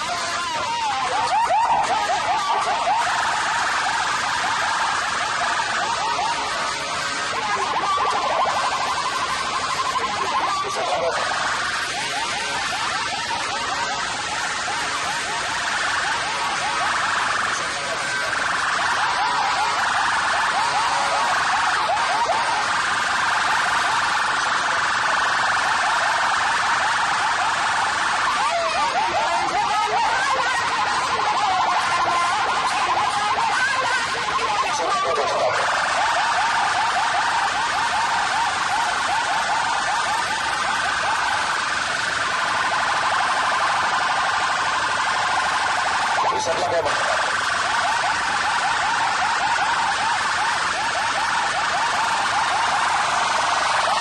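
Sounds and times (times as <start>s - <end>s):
dense wash of noise: 0.0s - 54.0s
electronic siren-like chirps: 0.0s - 54.0s.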